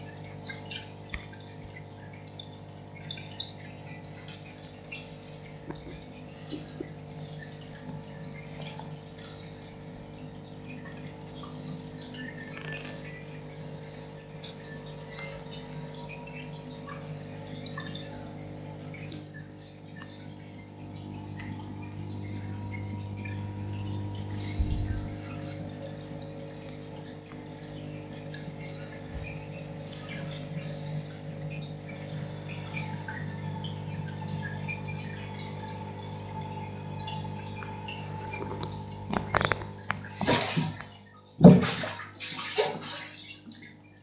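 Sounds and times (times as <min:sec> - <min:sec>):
aquarium pump humming: 0:00.0 - 0:44.0
water trickling and bubbling: 0:00.0 - 0:44.0
small ticks: 0:00.4 - 0:02.4, 0:03.0 - 0:23.4, 0:24.0 - 0:40.2.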